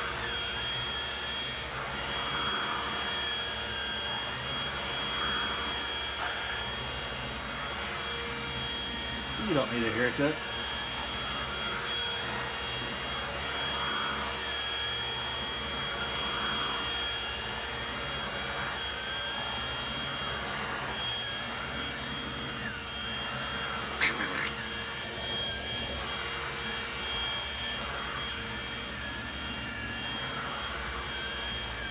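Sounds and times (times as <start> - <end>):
handheld vacuum cleaner whining: 0.0 - 31.9.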